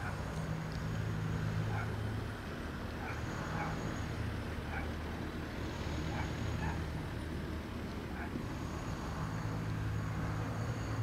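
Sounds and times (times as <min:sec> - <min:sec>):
distant road traffic hum: 0:00.0 - 0:11.0.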